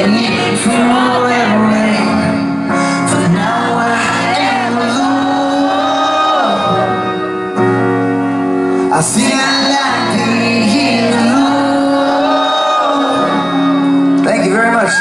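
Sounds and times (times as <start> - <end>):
person singing: 0.0 - 7.3, 8.9 - 14.2
live rock band playing: 0.0 - 15.0.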